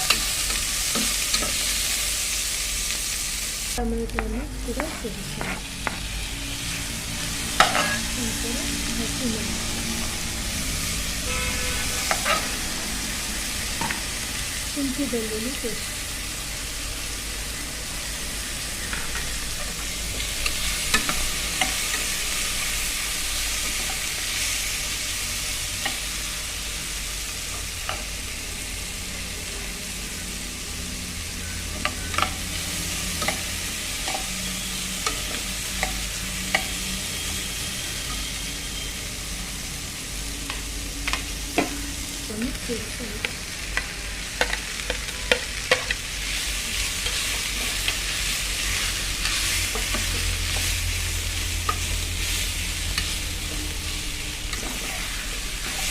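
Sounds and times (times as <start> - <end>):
food sizzling in hot oil: 0.0 - 55.9.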